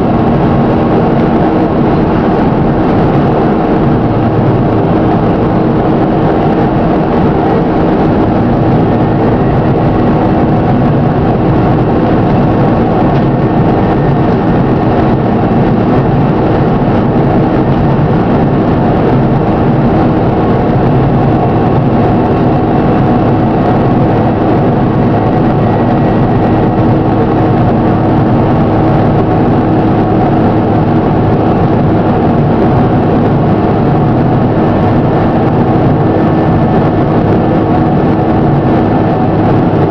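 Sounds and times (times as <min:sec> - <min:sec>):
bus engine knocking: 0:00.0 - 0:39.9.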